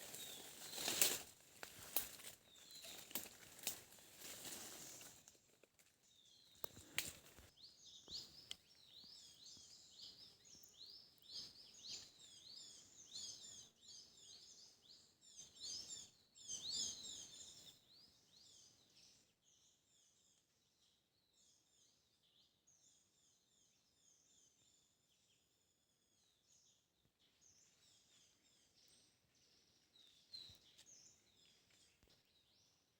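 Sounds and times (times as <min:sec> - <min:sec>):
songbird chirping: 0:00.0 - 0:32.9.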